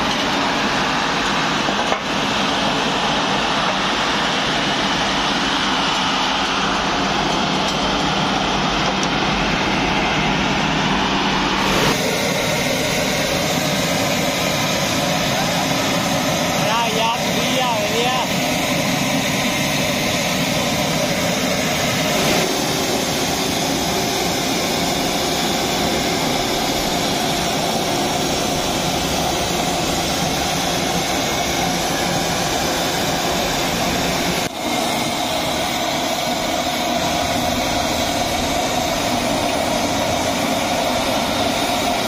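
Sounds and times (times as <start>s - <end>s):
steam hissing from vent: 0.0s - 42.0s.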